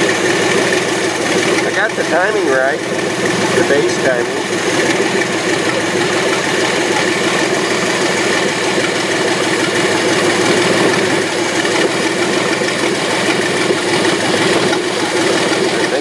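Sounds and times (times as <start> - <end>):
loud engine idling: 0.0 - 16.0.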